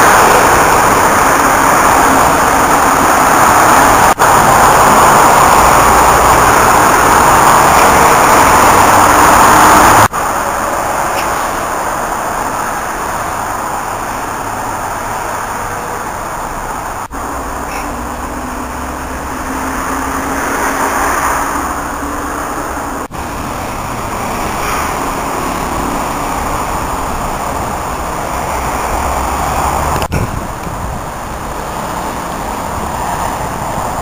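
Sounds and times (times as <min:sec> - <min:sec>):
road traffic hiss: 0:00.0 - 0:34.0.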